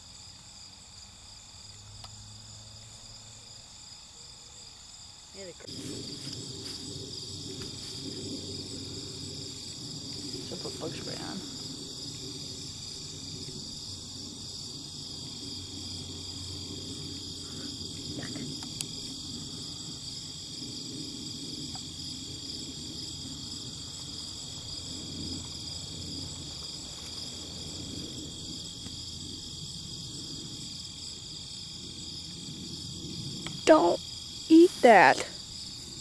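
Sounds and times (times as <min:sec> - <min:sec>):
insects chirping: 0:00.0 - 0:36.0.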